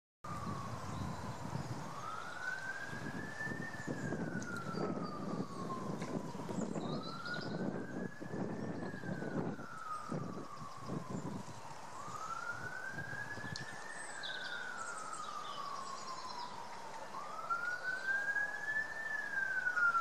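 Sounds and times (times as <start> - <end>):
police siren wailing: 0.3 - 20.0.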